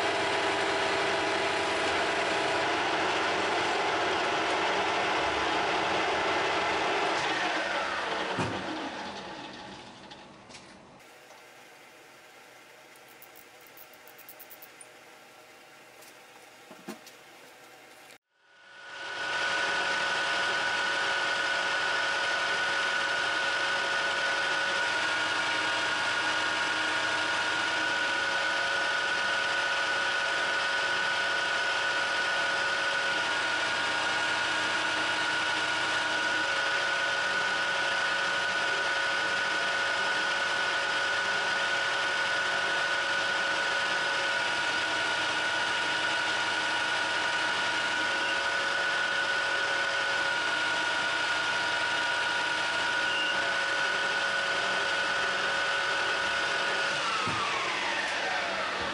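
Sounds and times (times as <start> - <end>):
metal lathe whining: 0.0 - 10.2, 19.0 - 58.9.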